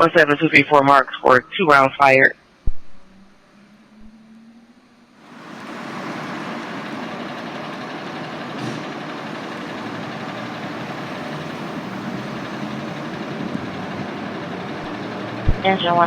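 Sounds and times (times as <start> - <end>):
diesel engine running: 2.4 - 16.0.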